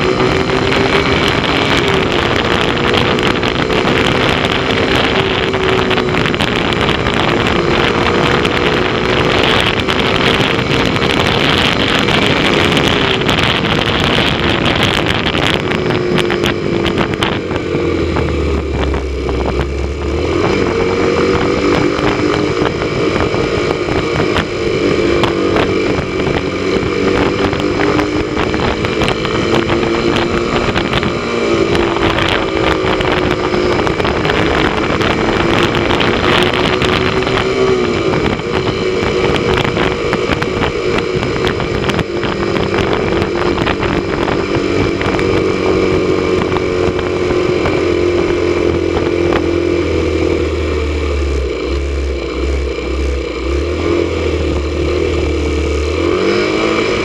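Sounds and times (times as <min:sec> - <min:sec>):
motorcycle engine cruising: 0:00.0 - 0:57.0
wind on microphone: 0:00.0 - 0:57.0.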